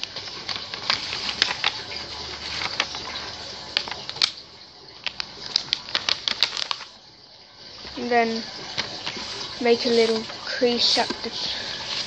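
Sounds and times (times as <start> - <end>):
paper being folded and creased: 0.0 - 4.4, 5.0 - 7.0, 8.6 - 12.0.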